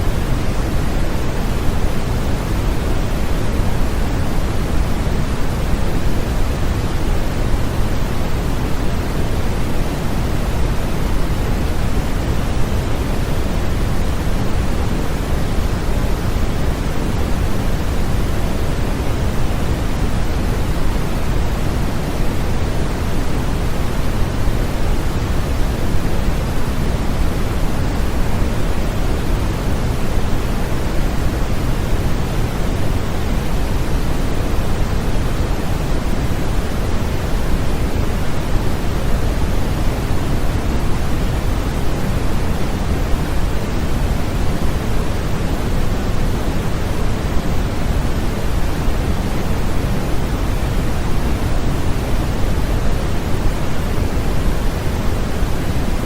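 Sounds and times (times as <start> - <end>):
steady pink noise: 0.0 - 56.0.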